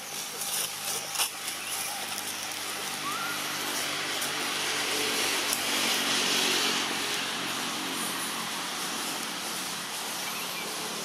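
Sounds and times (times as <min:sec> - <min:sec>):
constant hiss: 0:00.0 - 0:11.0
steady engine drone: 0:00.0 - 0:11.0.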